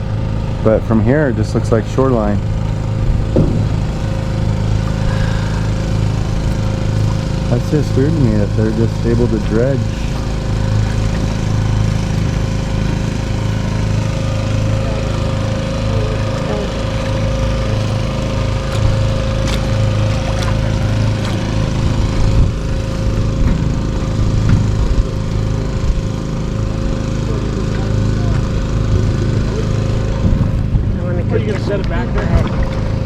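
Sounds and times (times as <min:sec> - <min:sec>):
engine droning: 0:00.0 - 0:33.0.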